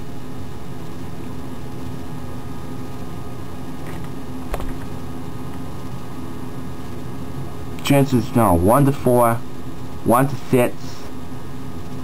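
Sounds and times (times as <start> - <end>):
indoor machine hum: 0.0 - 12.0.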